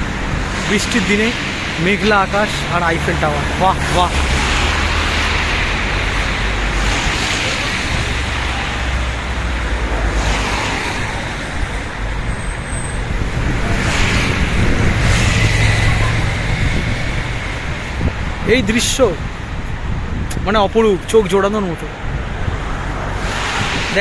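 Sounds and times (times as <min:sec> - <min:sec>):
road traffic tyre noise: 0:00.0 - 0:24.0
vehicles passing: 0:00.0 - 0:24.0.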